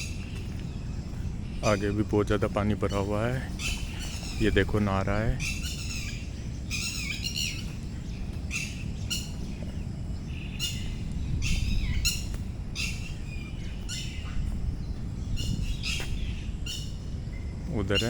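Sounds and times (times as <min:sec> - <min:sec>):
low rumble: 0:00.0 - 0:17.9
birds chirping: 0:00.0 - 0:18.0.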